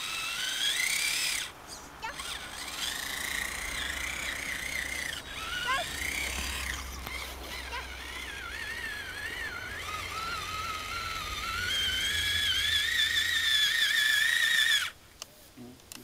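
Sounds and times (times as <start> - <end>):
electric motor whining: 0.0 - 15.0
wheels churning in snow: 0.0 - 15.0.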